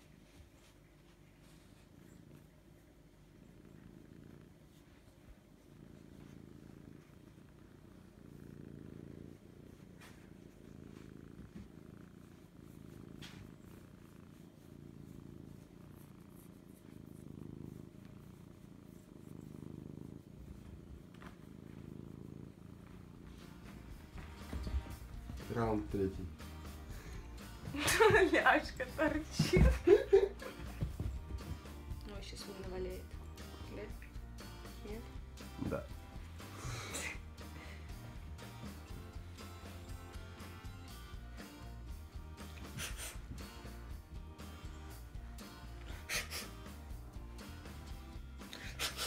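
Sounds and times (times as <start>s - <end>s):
cat purring: 0.0s - 49.0s.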